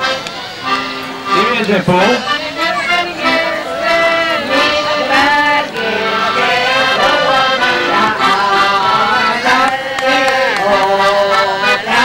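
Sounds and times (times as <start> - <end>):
piano accordion: 0.0 - 12.0
women singing: 2.3 - 12.0.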